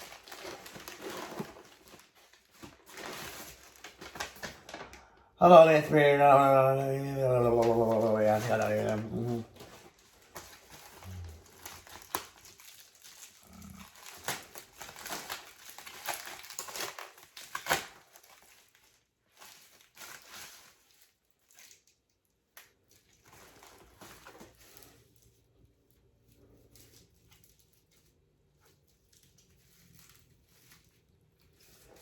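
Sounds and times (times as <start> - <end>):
packaging rustling and crinkling: 0.0 - 32.0.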